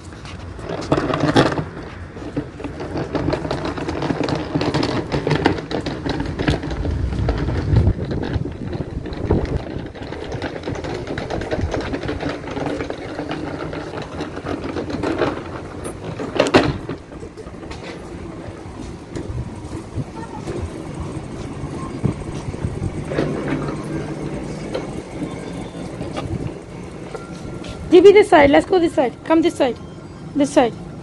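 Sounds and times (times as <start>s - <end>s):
vacuum cleaner rattling over paving: 0.0s - 31.0s.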